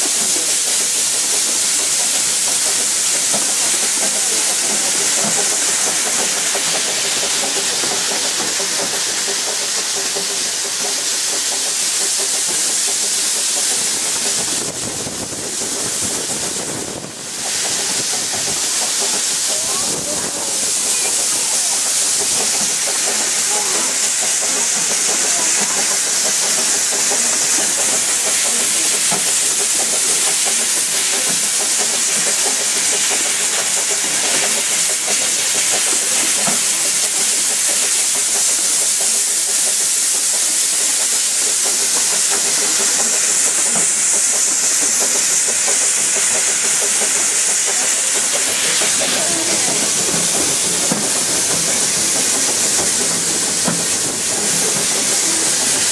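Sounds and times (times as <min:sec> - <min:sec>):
steam train hissing: 0:00.0 - 0:55.9.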